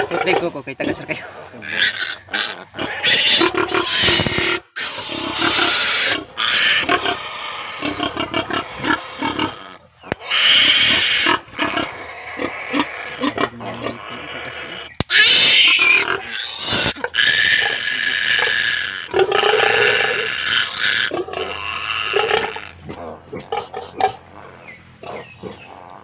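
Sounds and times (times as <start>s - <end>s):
piglet squealing: 1.6s - 22.8s.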